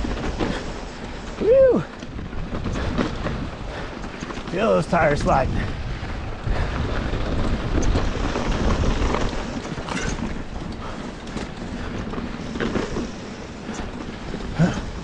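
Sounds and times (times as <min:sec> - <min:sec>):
tires rolling over loose dirt: 0:00.0 - 0:15.0
wind buffeting microphone: 0:00.0 - 0:15.0.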